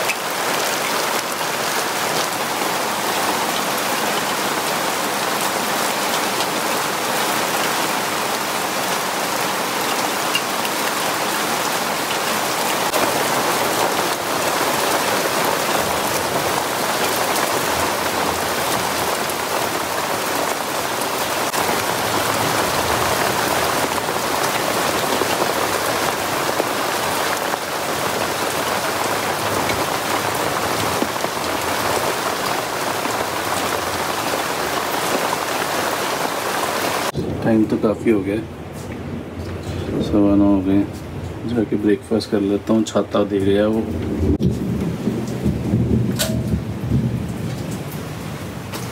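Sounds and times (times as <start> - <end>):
heavy rain on trees: 0.0 - 48.9.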